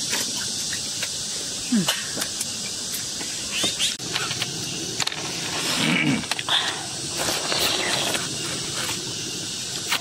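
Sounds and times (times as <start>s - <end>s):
insects hissing: 0.0s - 10.0s.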